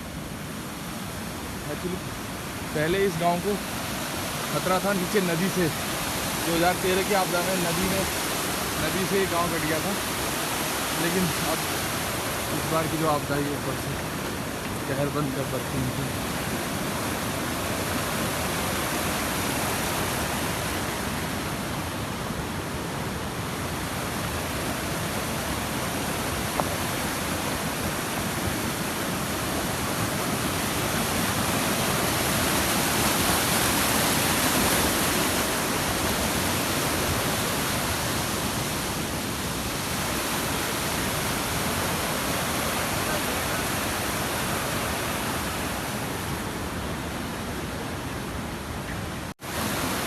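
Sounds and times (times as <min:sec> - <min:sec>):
rushing mountain stream: 0:00.0 - 0:50.0.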